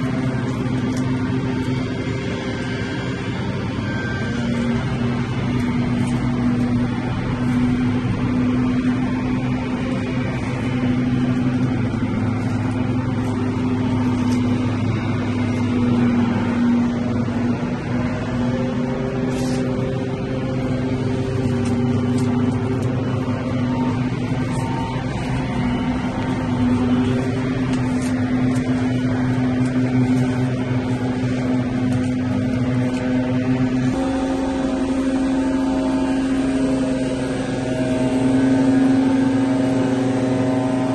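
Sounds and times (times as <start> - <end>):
leaf blower engine droning: 0.0 - 40.9.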